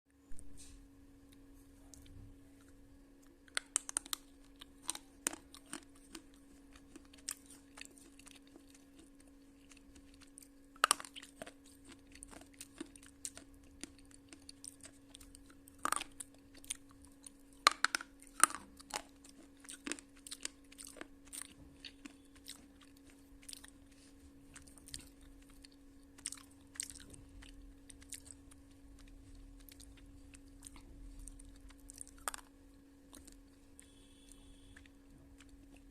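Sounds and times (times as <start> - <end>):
steady low hum: 0.1 - 35.9
pencil being chewed crunching: 2.0 - 35.9.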